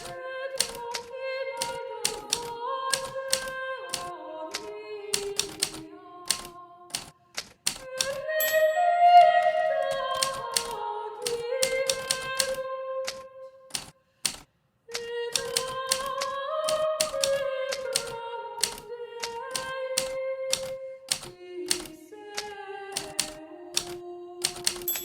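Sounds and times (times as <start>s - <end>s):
typewriter keys striking: 0.0s - 8.3s, 9.9s - 25.0s.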